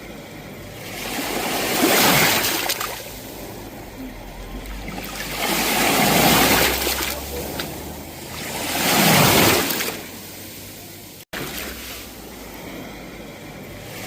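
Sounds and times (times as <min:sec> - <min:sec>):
sea waves breaking: 0:00.6 - 0:13.1.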